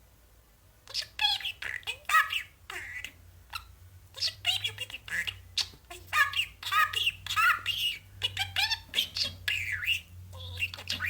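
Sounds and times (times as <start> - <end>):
budgerigar chattering: 0.9 - 11.0.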